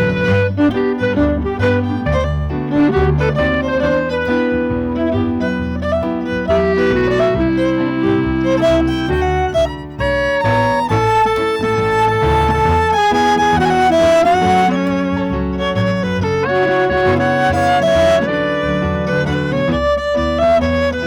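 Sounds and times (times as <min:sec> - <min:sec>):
chamber quartet playing: 0:00.0 - 0:21.0.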